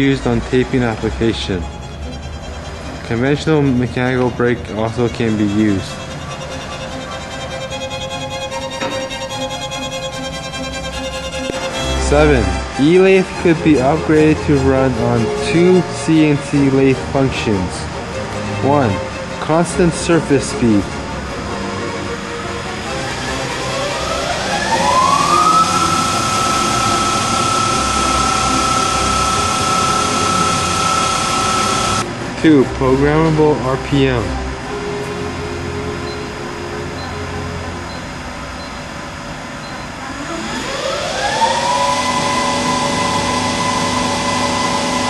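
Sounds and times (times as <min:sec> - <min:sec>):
lathe spindle whine rising: 0:00.0 - 0:33.6, 0:34.2 - 0:45.0.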